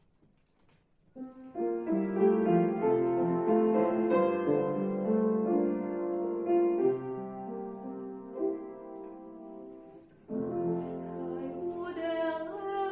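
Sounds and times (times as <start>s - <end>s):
piano chords and melody: 1.2s - 12.9s.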